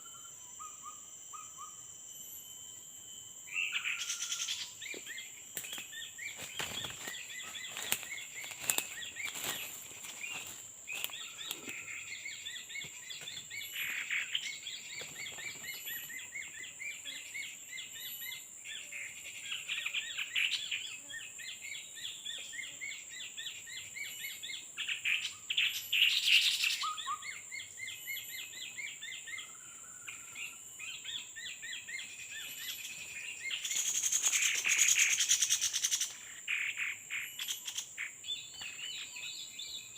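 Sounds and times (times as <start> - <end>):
high insect whine: 0.0 - 39.9
small birds chirping: 3.4 - 39.9.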